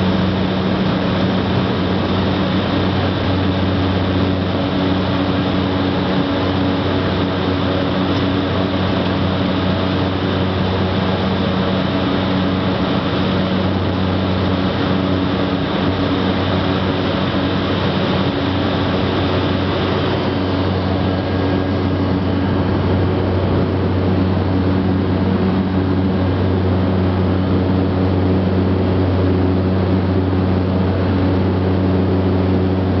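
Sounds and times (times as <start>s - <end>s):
propeller airplane engine drone: 0.0s - 33.0s.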